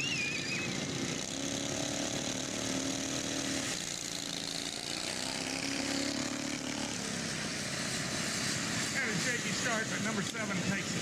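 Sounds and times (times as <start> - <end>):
lawnmower engines racing: 0.0 - 11.0.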